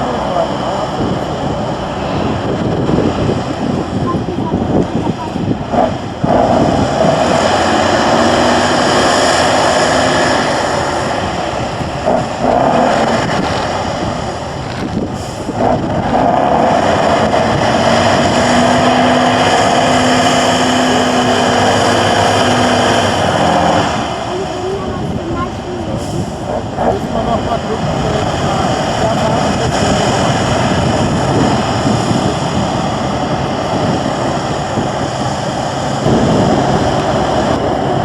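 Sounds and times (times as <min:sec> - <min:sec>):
truck diesel engine working hard: 0:00.0 - 0:38.0.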